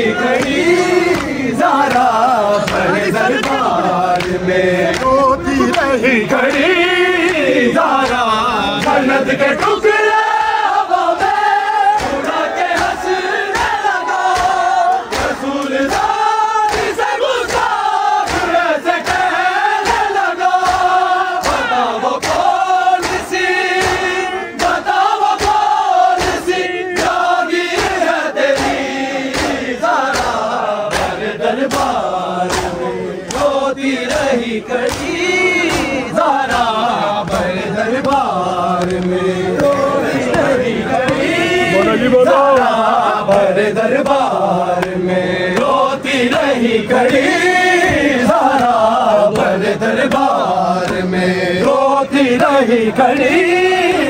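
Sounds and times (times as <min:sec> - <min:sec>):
men chanting mournful melody: 0:00.0 - 0:54.0.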